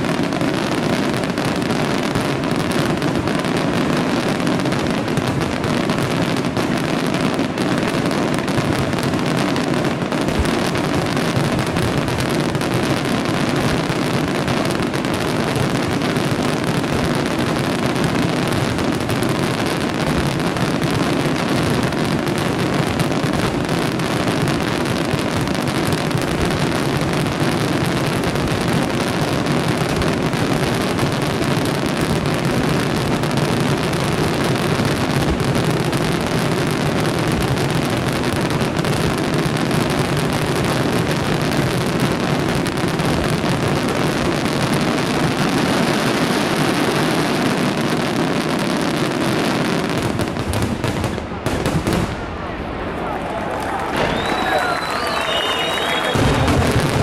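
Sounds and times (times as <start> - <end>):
fireworks exploding and crackling: 0.0 - 57.0.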